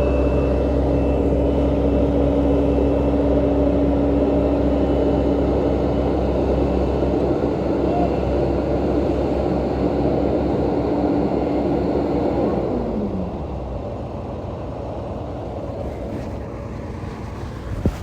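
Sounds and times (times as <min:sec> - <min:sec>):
heavy machine diesel engine: 0:00.0 - 0:18.0.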